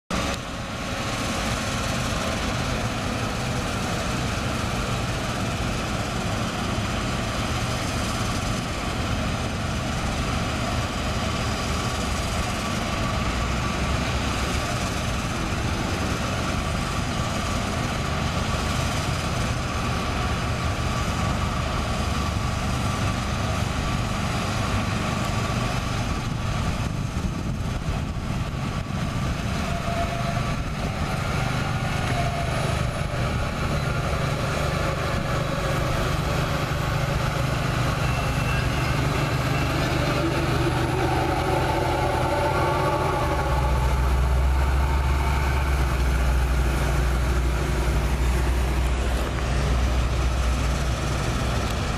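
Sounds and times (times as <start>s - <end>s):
truck diesel engine running: 0.1s - 51.9s.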